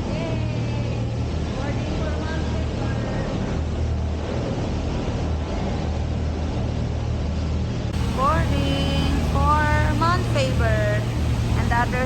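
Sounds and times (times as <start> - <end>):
mechanical hum and rumble: 0.0 - 12.0.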